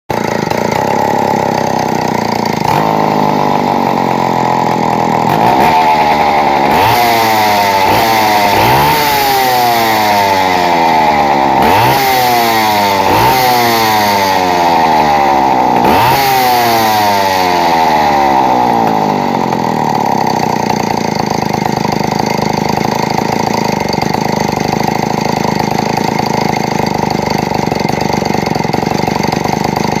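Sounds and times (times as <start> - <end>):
chainsaw engine revving and idling: 0.1 - 30.0.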